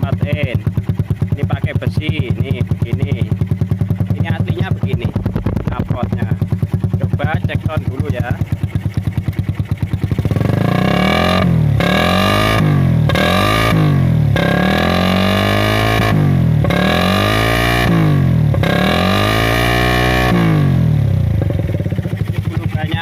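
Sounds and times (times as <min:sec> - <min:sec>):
loud motorcycle engine revving: 0:00.0 - 0:23.0.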